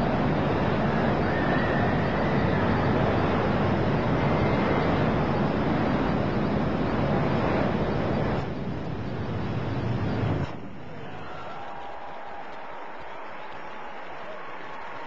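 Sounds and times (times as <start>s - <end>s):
steady rushing ambience: 0.0s - 13.2s.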